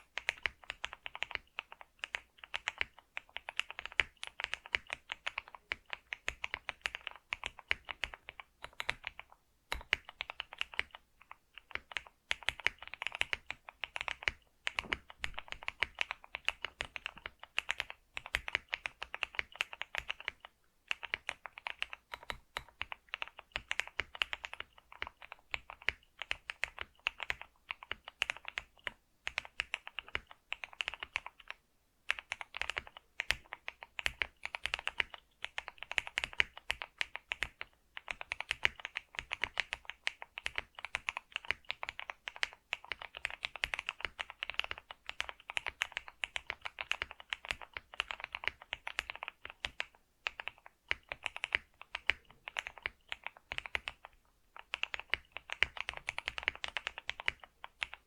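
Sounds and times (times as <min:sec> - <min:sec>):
fast typing on keyboard: 0:00.0 - 0:58.0.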